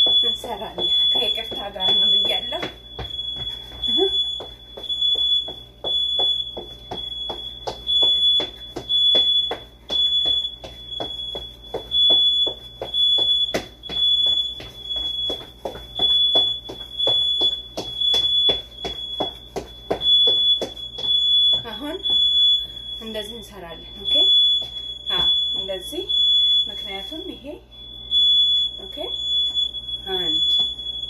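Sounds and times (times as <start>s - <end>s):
rapid rhythmic thumps: 0.0s - 23.4s, 24.0s - 25.9s
shrill alarm beeping: 0.0s - 31.0s.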